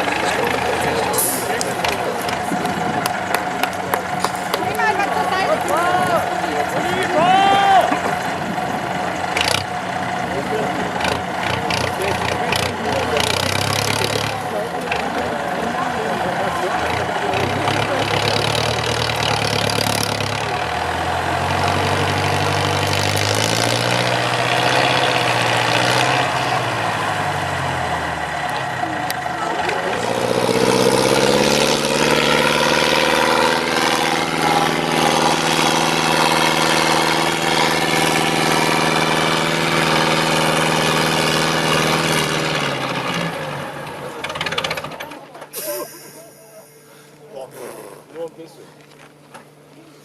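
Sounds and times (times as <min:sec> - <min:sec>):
truck engine revving: 0:00.0 - 0:48.4.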